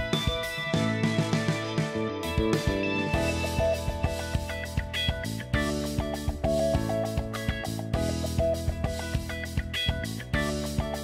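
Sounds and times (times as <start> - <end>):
instrumental music with a beat: 0.0 - 11.0.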